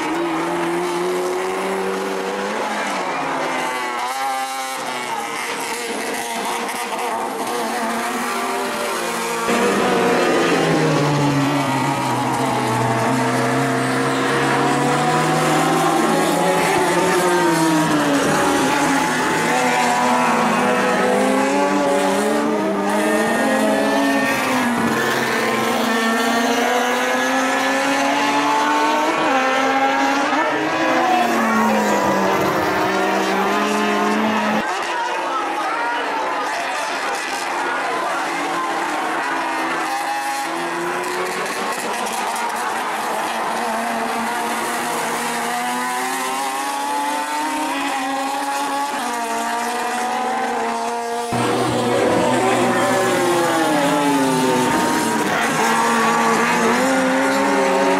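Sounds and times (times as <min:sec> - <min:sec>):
race car engines: 0:00.0 - 0:57.9.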